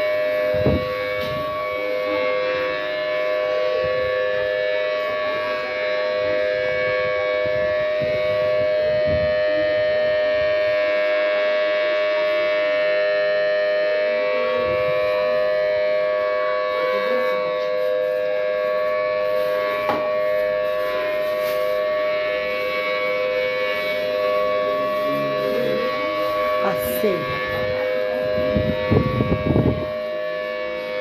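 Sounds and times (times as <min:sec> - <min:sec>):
warning siren steady chord: 0:00.0 - 0:31.0.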